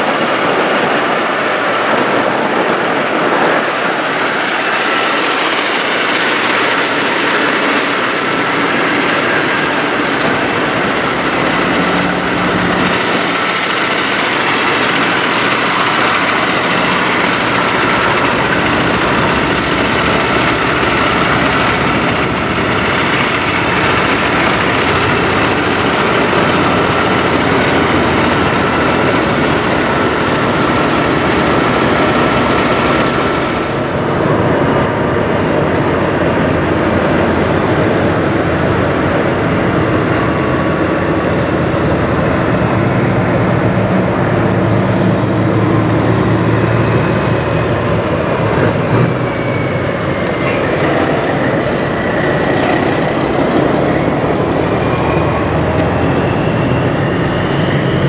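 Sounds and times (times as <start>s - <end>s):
diesel trucks idling: 0.0s - 58.0s.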